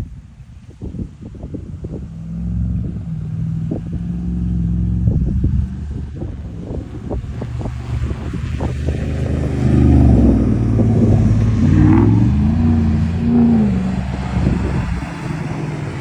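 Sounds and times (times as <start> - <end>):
pickup truck engine revving: 1.1 - 16.0.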